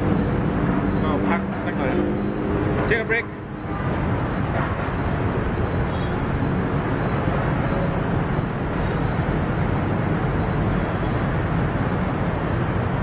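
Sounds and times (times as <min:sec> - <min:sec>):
low rumble of city noise: 0:00.0 - 0:13.0.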